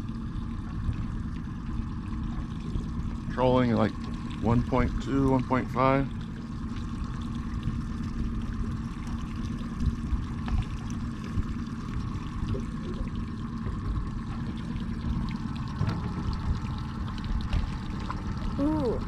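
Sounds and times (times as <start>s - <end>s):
outboard motor running: 0.0s - 19.0s
water splashing along hull: 0.0s - 19.0s.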